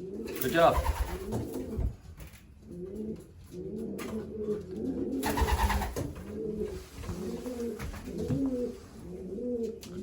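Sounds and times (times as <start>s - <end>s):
pigeons cooing: 0.0s - 1.9s, 2.6s - 10.0s.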